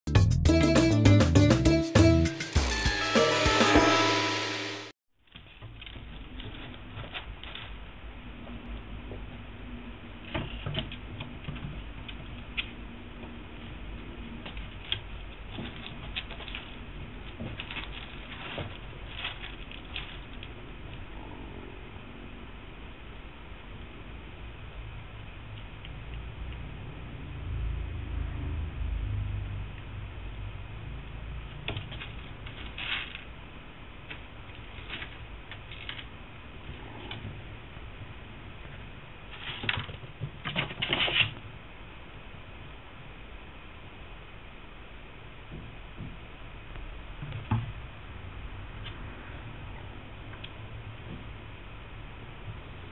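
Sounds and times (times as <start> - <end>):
faint steady hum: 5.3 - 52.9.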